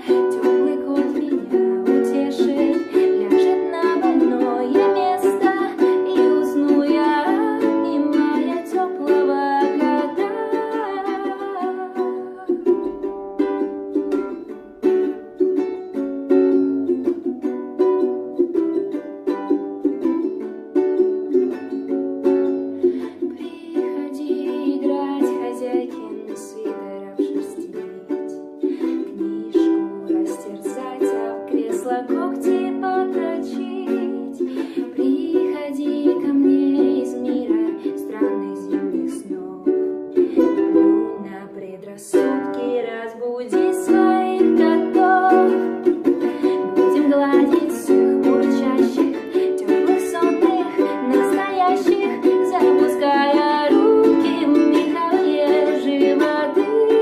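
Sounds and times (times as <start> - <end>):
plucked instrumental music: 0.0 - 57.0.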